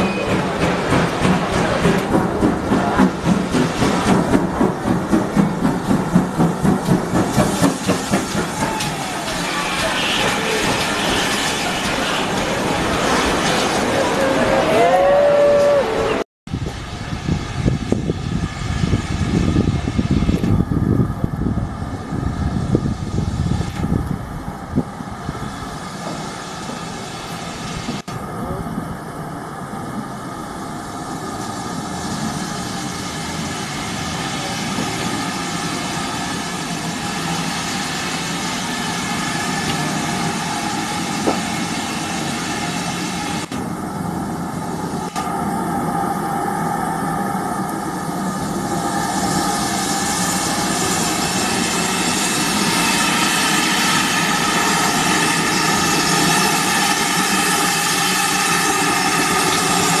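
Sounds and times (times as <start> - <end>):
steam locomotive hissing: 0.0 - 60.0.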